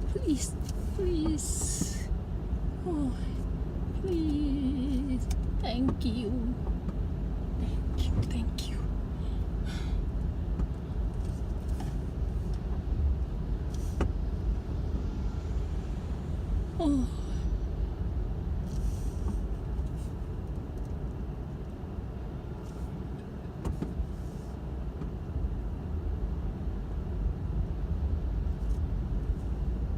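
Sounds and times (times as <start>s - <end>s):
car engine and tyre rumble: 0.0s - 29.9s.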